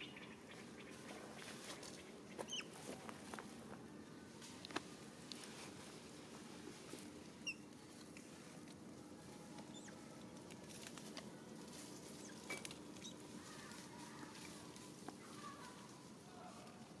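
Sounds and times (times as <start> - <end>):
faint rustling: 1.0 - 17.0.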